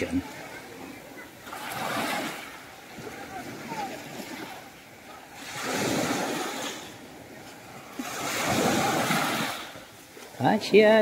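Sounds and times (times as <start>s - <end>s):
small waves washing on beach: 0.0s - 11.0s.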